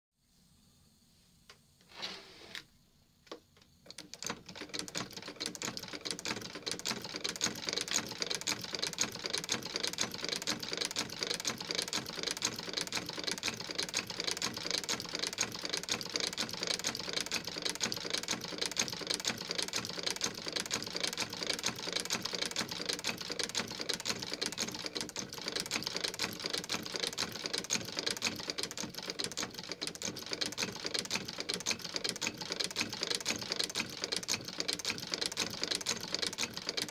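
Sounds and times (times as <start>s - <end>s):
sewing machine stitching: 3.9s - 36.9s.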